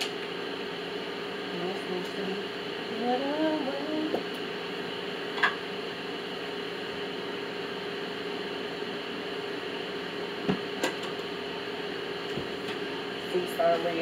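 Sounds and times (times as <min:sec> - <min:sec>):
appliance hum and hiss: 0:00.0 - 0:14.0.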